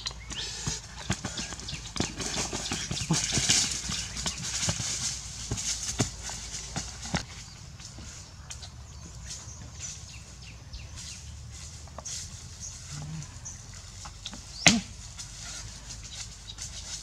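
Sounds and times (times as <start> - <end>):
bare feet running on dry leaves: 0.0 - 17.0.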